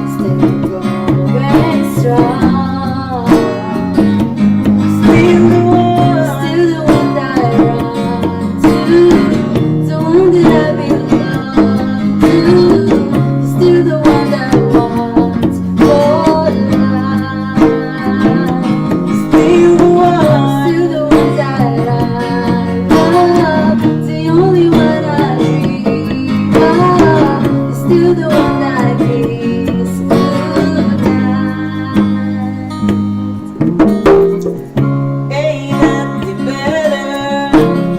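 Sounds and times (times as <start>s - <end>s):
acoustic guitar strummed: 0.0s - 37.9s
person singing: 0.0s - 37.9s.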